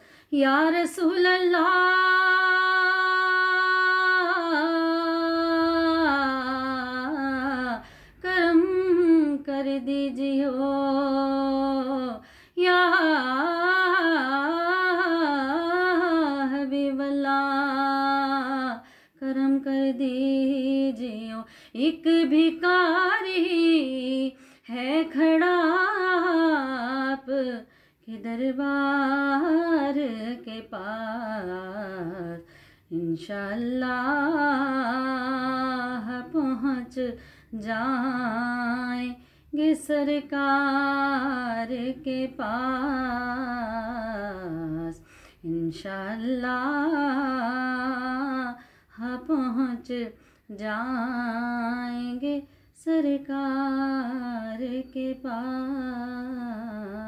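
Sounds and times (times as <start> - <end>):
person singing devotional song: 0.0 - 57.0.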